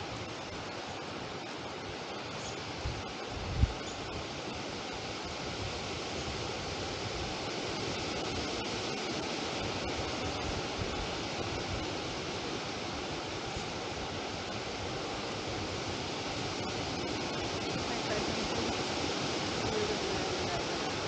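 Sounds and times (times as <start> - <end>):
wind blowing over microphone: 0.0 - 21.0.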